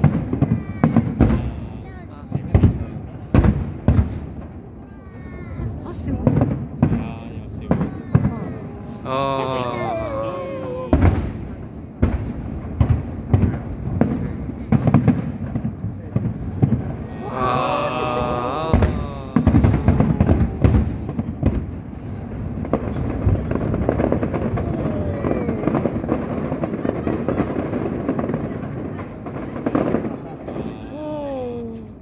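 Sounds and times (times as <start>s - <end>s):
fireworks booms and cracks: 0.0s - 32.0s.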